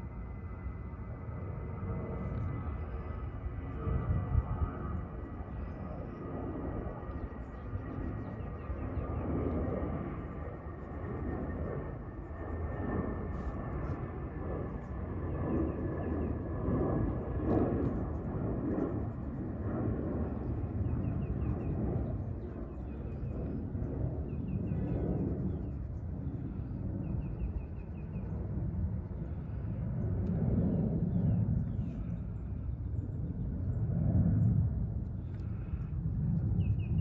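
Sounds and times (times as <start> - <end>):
distant airplane rumble: 0.0 - 37.0.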